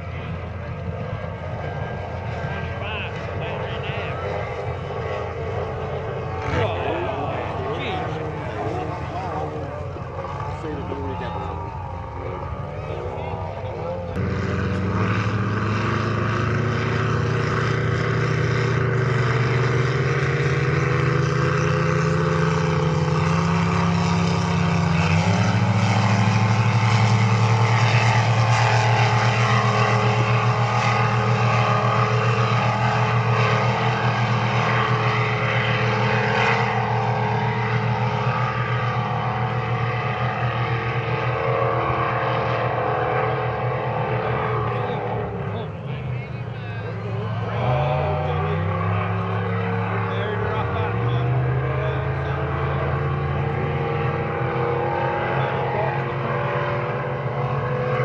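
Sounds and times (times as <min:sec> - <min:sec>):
powerboat engines droning: 0:00.0 - 0:58.0.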